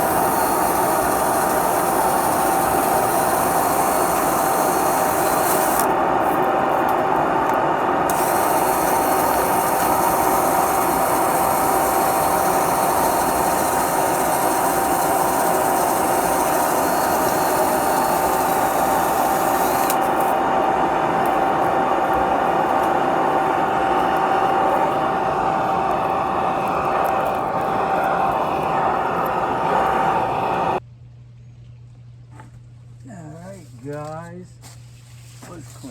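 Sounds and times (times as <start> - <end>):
high hiss: 0.0 - 30.8
machine rattling and whining: 0.0 - 30.8.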